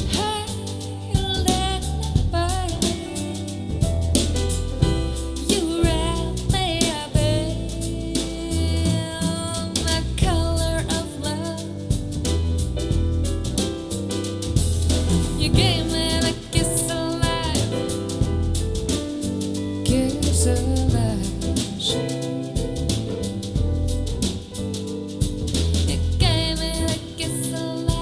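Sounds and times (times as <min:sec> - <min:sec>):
soul jazz with drums and bass: 0:00.0 - 0:28.0.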